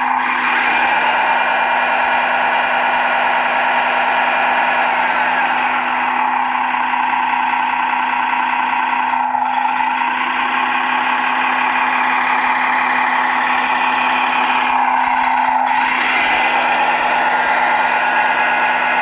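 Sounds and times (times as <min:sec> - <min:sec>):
constant hum: 0:00.0 - 0:19.0
toy truck electric motor whining: 0:00.0 - 0:19.0.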